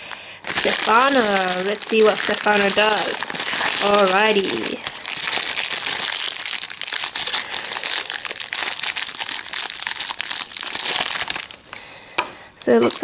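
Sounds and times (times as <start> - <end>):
plastic bag crinkling: 0.0 - 12.0, 12.6 - 13.0.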